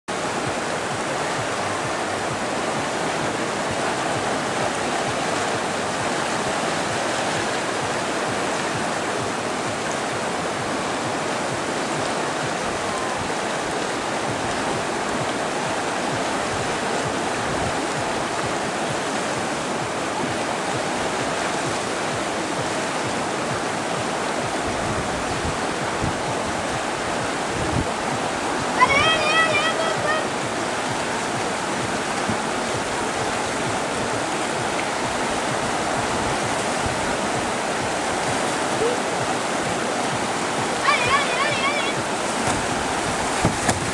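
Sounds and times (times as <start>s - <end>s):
river rapids rushing: 0.1s - 43.9s.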